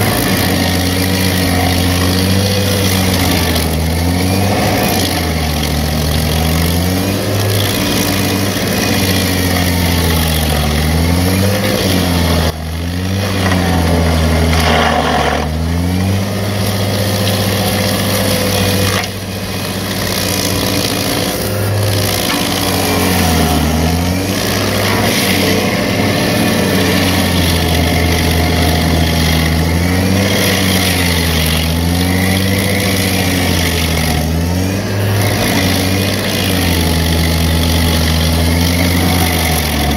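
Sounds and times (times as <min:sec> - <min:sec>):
stump grinder grinding wood: 0:00.0 - 0:39.9.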